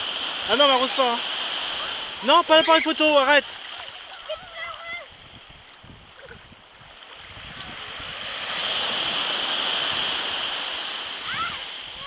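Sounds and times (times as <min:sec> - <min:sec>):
small waves breaking on shore: 0:00.0 - 0:12.0.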